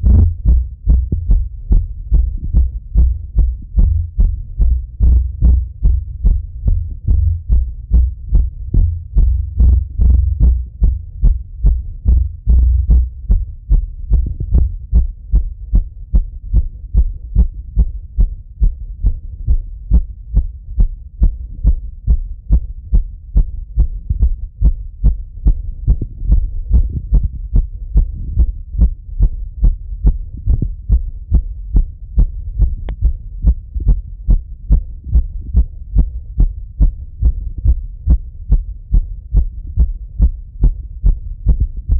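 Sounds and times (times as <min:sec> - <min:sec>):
fast heartbeat thumps: 0:00.0 - 0:41.9.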